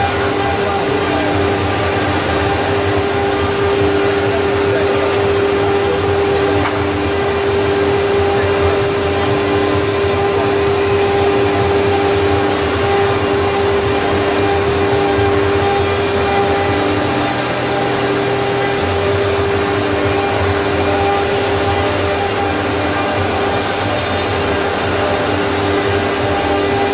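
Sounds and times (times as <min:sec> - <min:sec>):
lower machine tone: 0:00.0 - 0:26.9
router spindle whining: 0:00.0 - 0:26.9.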